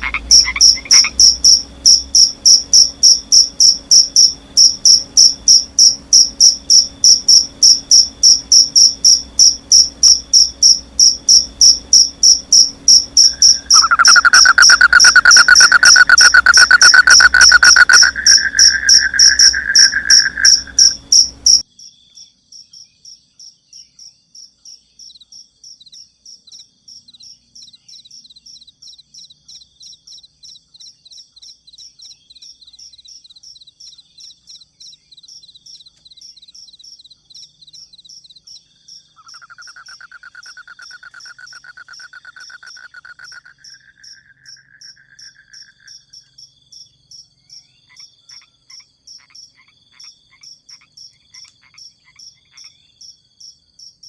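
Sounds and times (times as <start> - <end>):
frog croaks: 0.0 - 21.6, 26.5 - 46.4, 47.5 - 53.0
high insect chirps: 0.0 - 54.0.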